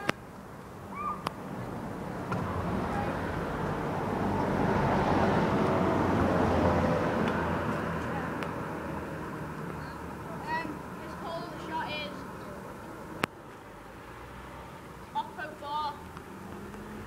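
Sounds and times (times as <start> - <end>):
car passing: 0.7 - 17.0.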